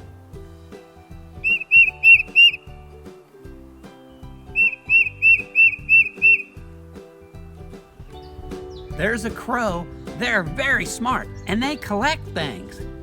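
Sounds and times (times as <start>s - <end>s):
soft background music: 0.0s - 13.0s
bird singing whistled notes: 1.4s - 2.9s, 3.5s - 13.0s.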